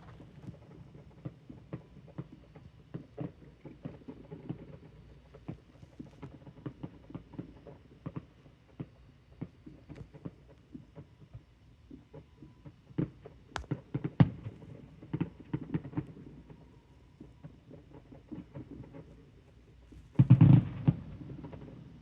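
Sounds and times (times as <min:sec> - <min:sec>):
distant fireworks popping: 0:00.0 - 0:22.0.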